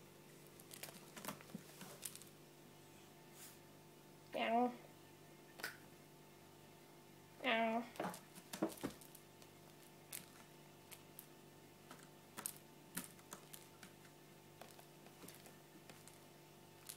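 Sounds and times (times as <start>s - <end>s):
low room hum: 0.0s - 16.9s.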